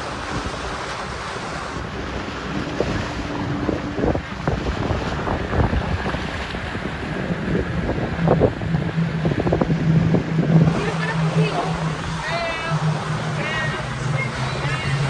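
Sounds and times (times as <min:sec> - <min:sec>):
sea water rushing around boat: 0:00.0 - 0:15.0
wind buffeting microphone: 0:00.0 - 0:15.0
low thumps: 0:02.4 - 0:15.0.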